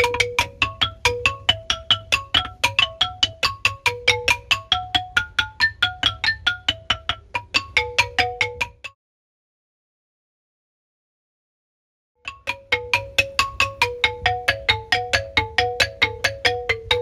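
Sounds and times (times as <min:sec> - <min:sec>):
bamboo xylophone played with mallets: 0:00.0 - 0:09.0, 0:12.2 - 0:17.0.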